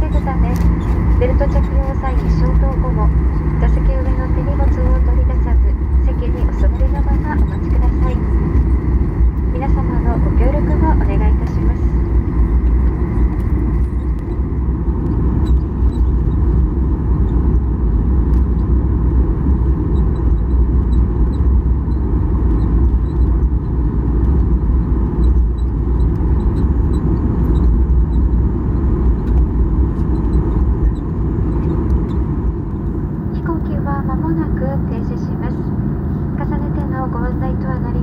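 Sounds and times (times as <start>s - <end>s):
aircraft cabin rumble while taxiing: 0.0s - 38.0s.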